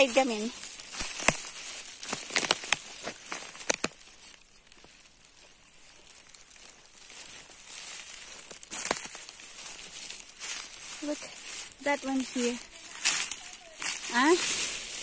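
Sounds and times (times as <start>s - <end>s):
rustling through leaf litter: 0.0s - 15.0s.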